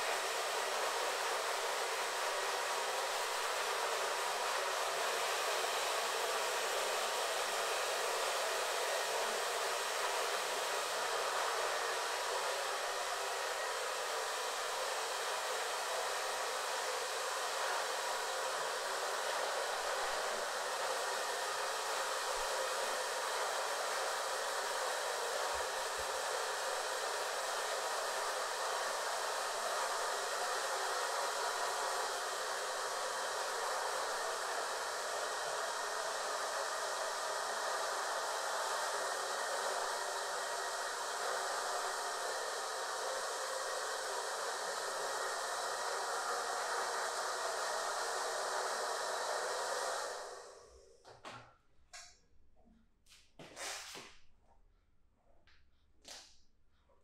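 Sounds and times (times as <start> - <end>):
hair dryer running: 0.0 - 51.4.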